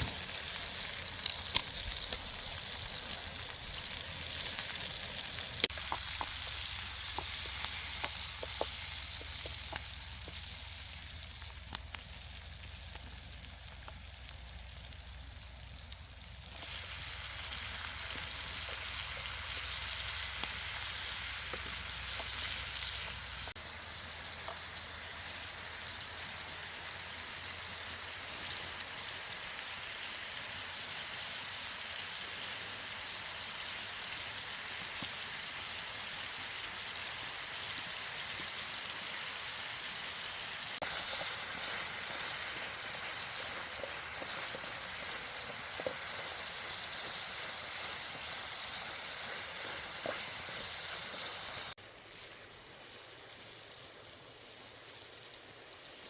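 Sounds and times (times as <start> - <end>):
sharp fire crackles: 0.0 - 29.4, 34.4 - 56.0
food sizzling over campfire: 0.0 - 56.0.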